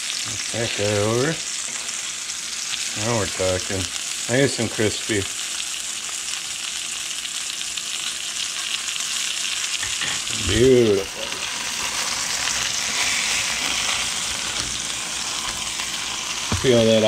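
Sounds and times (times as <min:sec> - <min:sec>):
fish sizzling in a skillet: 0:00.0 - 0:17.0.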